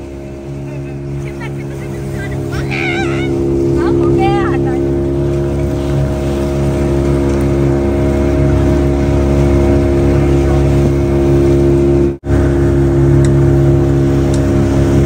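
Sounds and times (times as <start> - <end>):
outboard motor running: 0.0 - 15.0
water and wind rush: 0.0 - 15.0.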